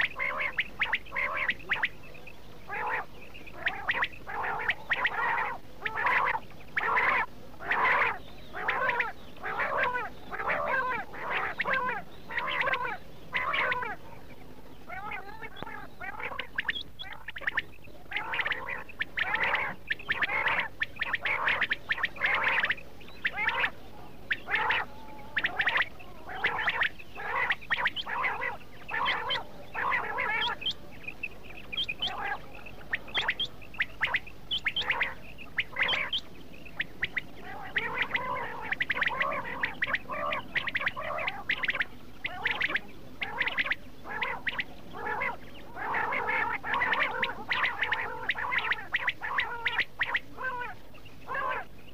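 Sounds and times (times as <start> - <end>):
quail calling: 0.0 - 51.9.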